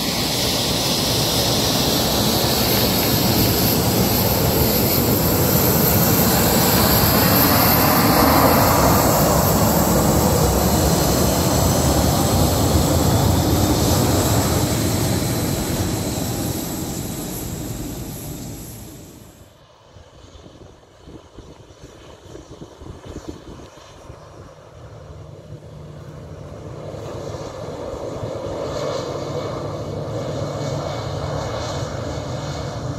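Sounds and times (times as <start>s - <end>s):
jet engine whine and rumble: 0.0s - 32.9s.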